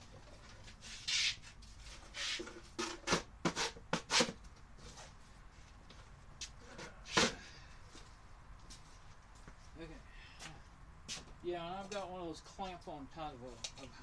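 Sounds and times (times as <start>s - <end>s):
rustles and scrapes of clutter: 0.0s - 14.0s.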